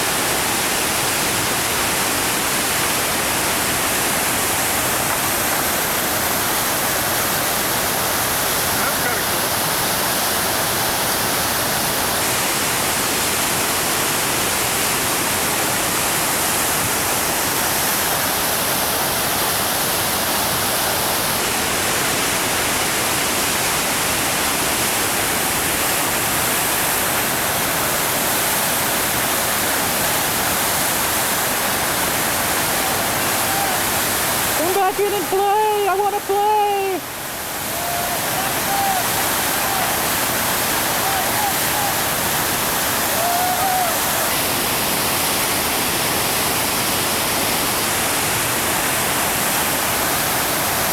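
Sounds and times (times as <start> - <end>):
rushing churning water: 0.0 - 50.9.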